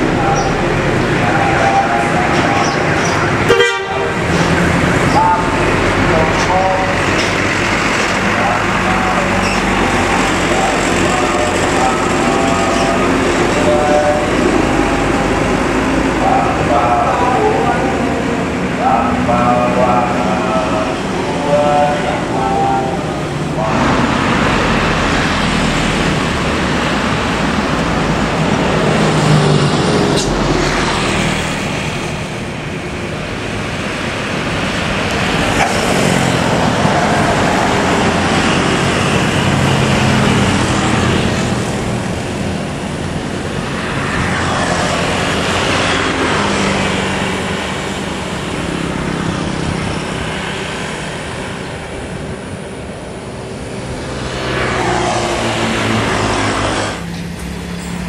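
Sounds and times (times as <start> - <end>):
vehicles driving past: 0.0 - 58.0.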